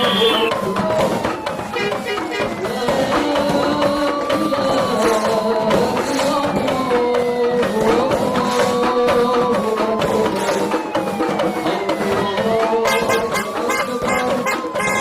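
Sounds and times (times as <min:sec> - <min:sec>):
drums: 0:00.0 - 0:15.0
singing: 0:00.0 - 0:15.0.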